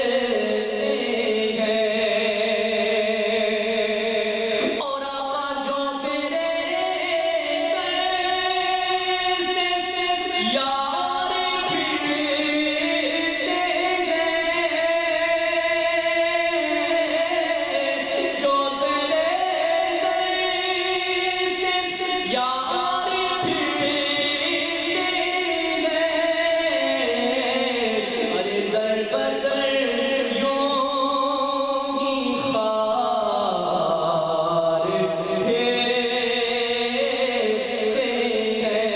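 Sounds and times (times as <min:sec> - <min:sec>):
man singing into a microphone: 0:00.0 - 0:38.9.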